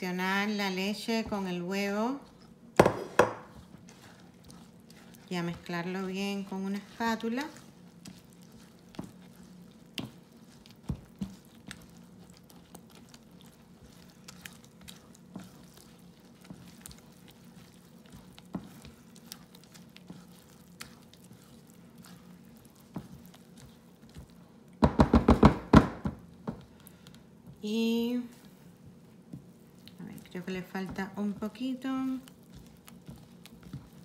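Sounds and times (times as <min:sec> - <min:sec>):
low steady hum: 0:00.0 - 0:25.0, 0:26.0 - 0:34.0
spatula stirring batter: 0:00.0 - 0:34.0.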